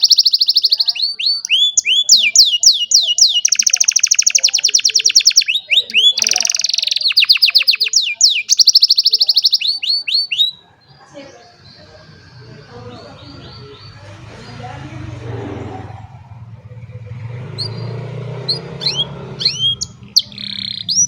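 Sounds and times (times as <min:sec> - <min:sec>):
canary singing with trills: 0:00.0 - 0:21.0.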